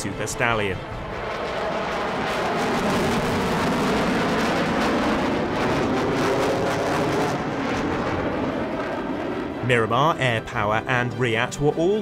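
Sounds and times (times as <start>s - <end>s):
aircraft flying overhead: 0.0s - 12.0s.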